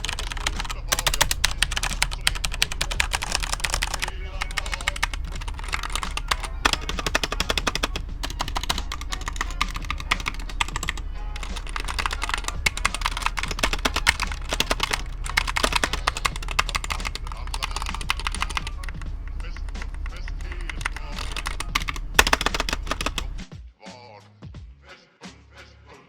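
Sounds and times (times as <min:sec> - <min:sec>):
mechanical keyboard key clicks: 0:00.0 - 0:23.4.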